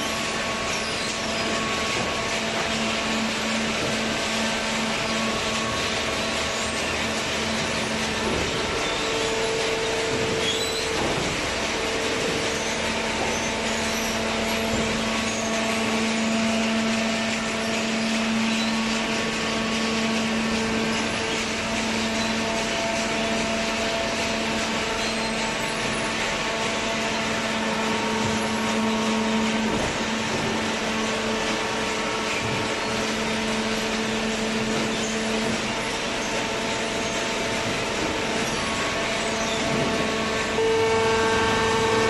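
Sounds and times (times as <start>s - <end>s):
baling machine drone: 0.0s - 42.0s.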